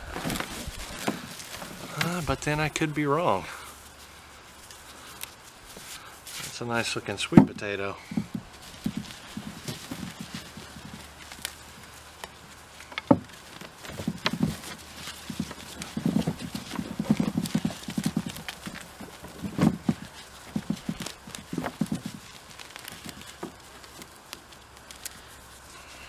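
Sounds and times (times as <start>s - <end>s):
soil crumbling and rustling: 0.0s - 26.0s.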